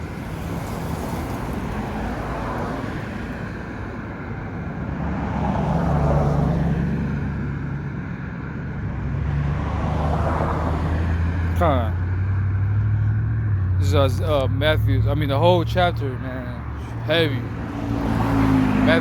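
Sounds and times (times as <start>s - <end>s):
low engine hum: 0.0s - 19.0s
road traffic: 0.0s - 19.0s
vehicles passing: 0.0s - 19.0s.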